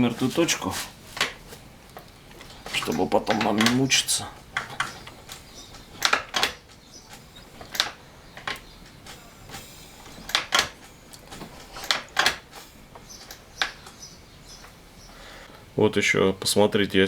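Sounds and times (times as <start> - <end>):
hand tools clicking on metal: 0.0 - 15.5.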